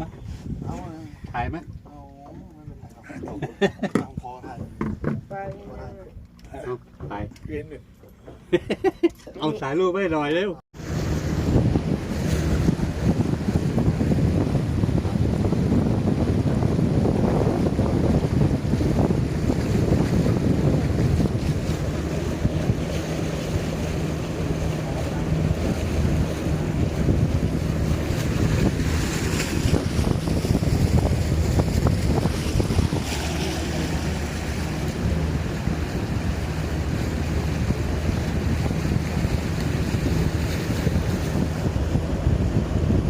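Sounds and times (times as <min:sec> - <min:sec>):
wind buffeting microphone: 0:00.0 - 0:07.8, 0:10.8 - 0:43.0
boat engine running: 0:00.0 - 0:43.0
waves against hull: 0:00.0 - 0:43.0.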